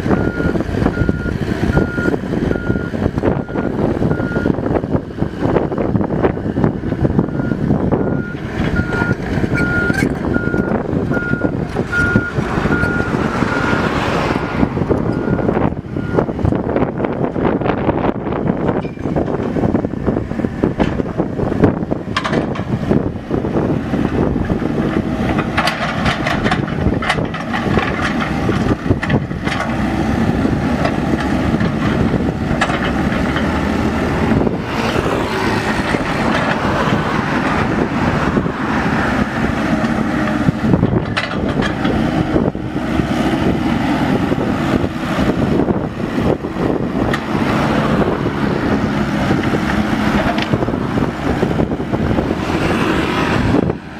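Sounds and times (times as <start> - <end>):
mini excavator engine running: 0.0 - 53.9.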